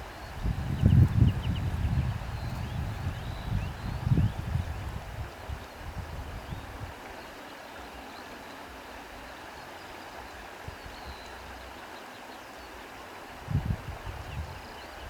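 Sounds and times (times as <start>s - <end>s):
reeds rustling in wind: 0.0s - 11.8s, 12.6s - 15.0s
sea: 0.0s - 15.0s.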